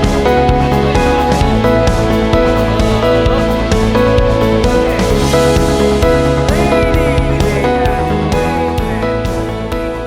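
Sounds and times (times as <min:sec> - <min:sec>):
background music with guitar: 0:00.0 - 0:10.0.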